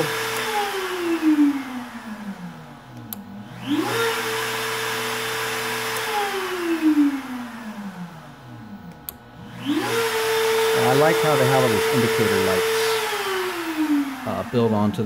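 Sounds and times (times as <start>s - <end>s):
router motor whine: 0.0s - 15.0s.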